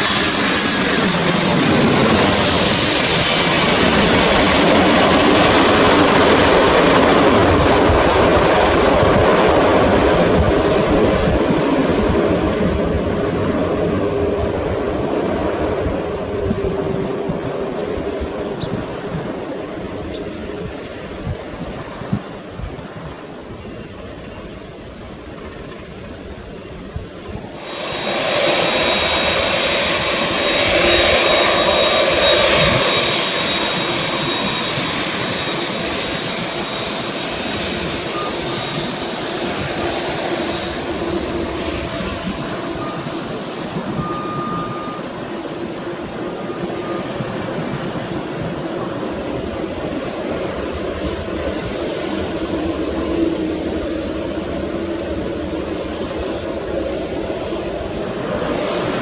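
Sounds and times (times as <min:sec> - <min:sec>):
jet engines running close by: 0:00.0 - 0:59.0
jet plane rumble: 0:00.0 - 0:59.0.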